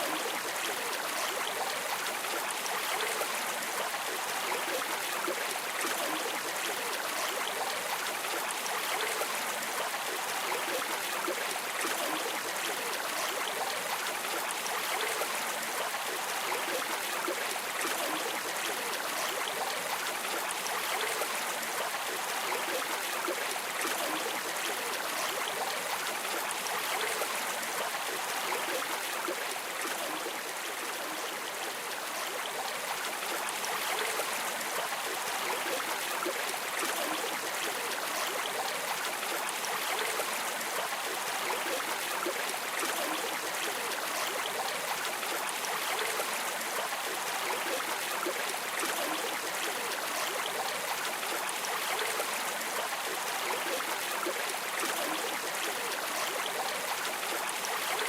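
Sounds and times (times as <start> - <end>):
river water streaming and splashing: 0.0 - 58.0.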